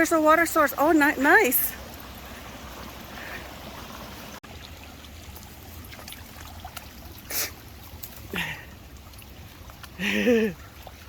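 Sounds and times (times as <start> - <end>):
water trickling and pouring: 0.0 - 11.0.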